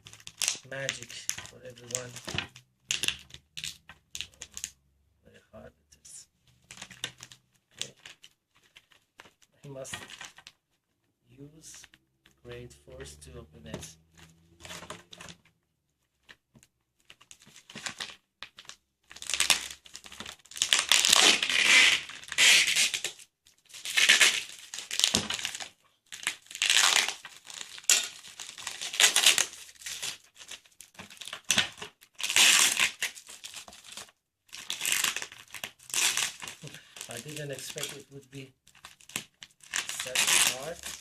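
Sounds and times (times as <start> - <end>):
wrapping crinkling and tearing: 0.0 - 4.8, 6.5 - 10.6, 14.0 - 41.0.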